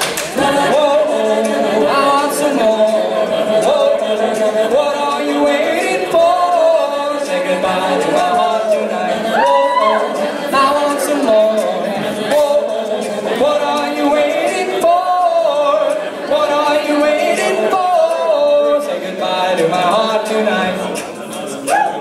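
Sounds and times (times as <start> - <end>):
a cappella group singing: 0.0 - 22.0.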